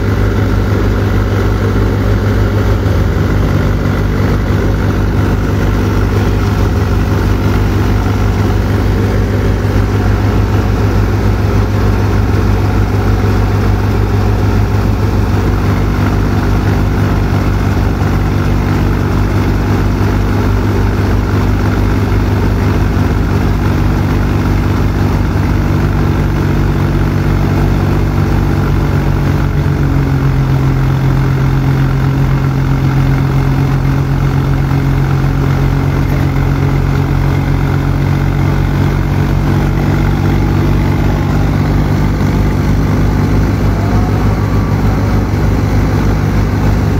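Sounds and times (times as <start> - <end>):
diesel tractor engine under load: 0.0 - 46.9.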